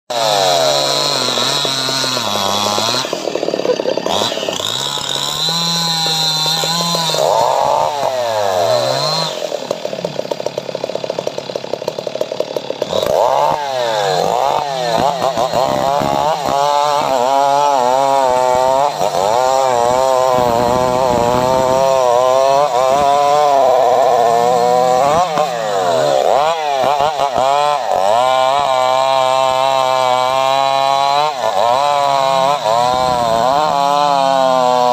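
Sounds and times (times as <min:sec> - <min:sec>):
chainsaw cutting through wood: 0:00.1 - 0:34.9.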